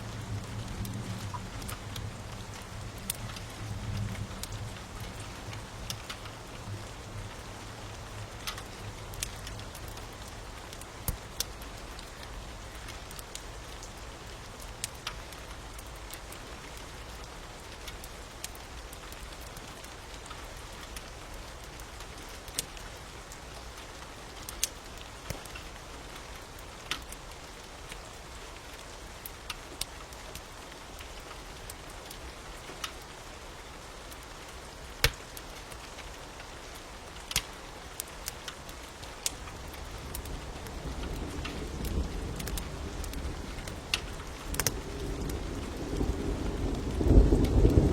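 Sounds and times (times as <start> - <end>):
fire crackling and popping: 0.0 - 47.9
steady rain hiss: 0.0 - 47.9.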